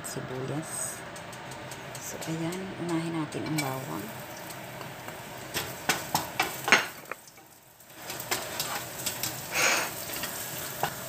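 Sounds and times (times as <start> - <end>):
garlic sizzling in oil: 1.0 - 11.0
spatula scraping and knocking pan: 1.3 - 11.0.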